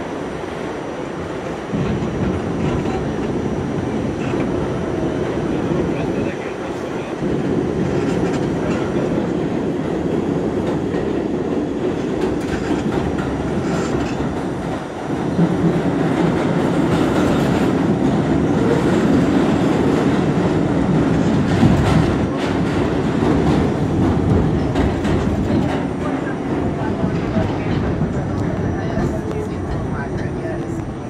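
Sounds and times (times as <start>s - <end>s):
steel wheels rumbling on rail: 0.0s - 31.0s.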